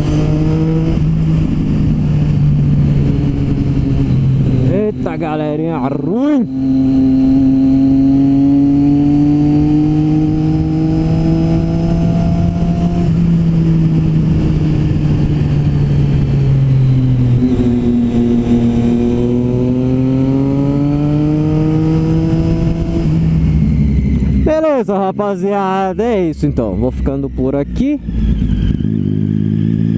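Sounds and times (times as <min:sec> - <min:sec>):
motorcycle engine revving: 0:00.0 - 0:29.9
wind noise: 0:00.0 - 0:29.9.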